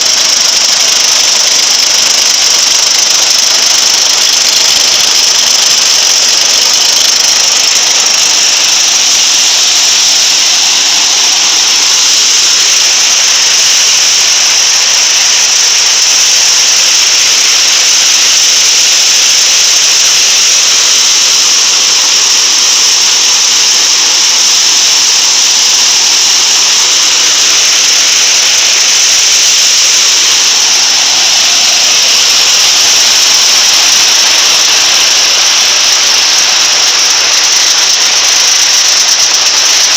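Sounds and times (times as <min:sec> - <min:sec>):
rice thresher whirring: 0:00.0 - 0:39.9.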